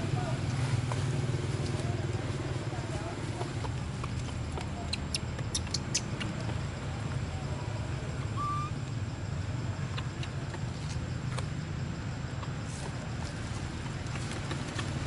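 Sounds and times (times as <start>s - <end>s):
low outdoor background rumble: 0.0s - 15.0s.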